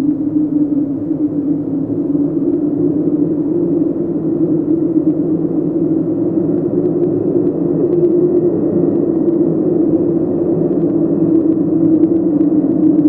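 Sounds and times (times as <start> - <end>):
hollow wind drone: 0.0 - 13.0.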